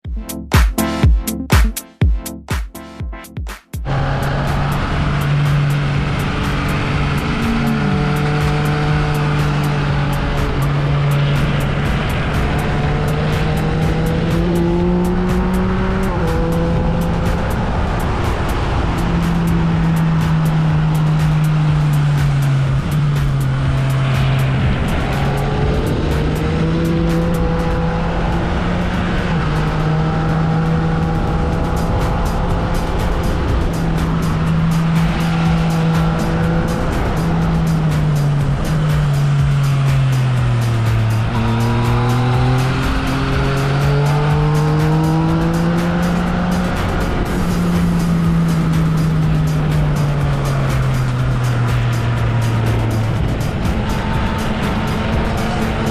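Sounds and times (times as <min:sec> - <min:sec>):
motorcycle engine running steadily: 0:03.8 - 0:55.9.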